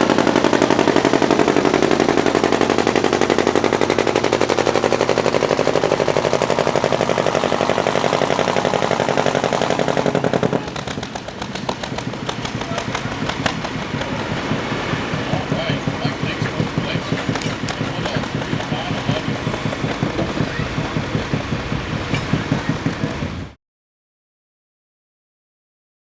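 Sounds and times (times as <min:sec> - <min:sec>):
tractor engine at full throttle: 0:00.0 - 0:23.6.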